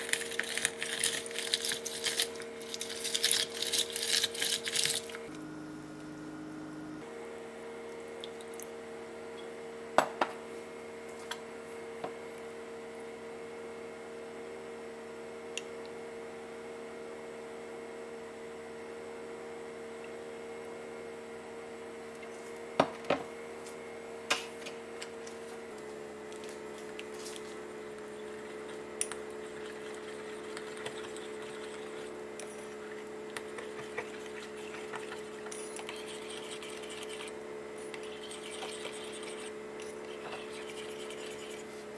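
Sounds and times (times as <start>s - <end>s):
steady hum: 0.0s - 15.0s, 19.4s - 41.9s.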